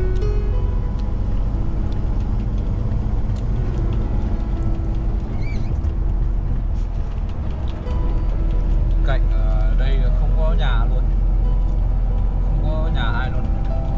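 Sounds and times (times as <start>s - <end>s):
engine hum: 0.0s - 13.9s
road noise rumble: 0.0s - 13.9s.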